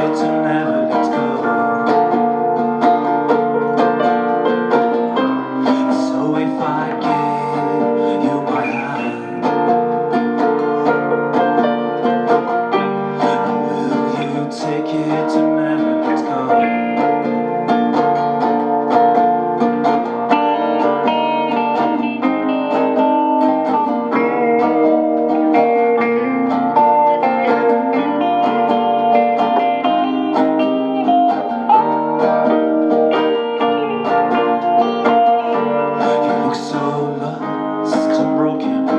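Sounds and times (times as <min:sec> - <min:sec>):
plucked acoustic guitar music: 0:00.0 - 0:38.9.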